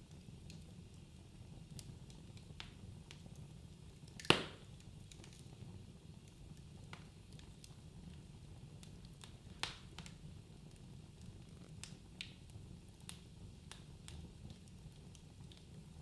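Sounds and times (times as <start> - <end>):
burning logs popping and snapping: 0.2 - 5.6, 6.2 - 15.9.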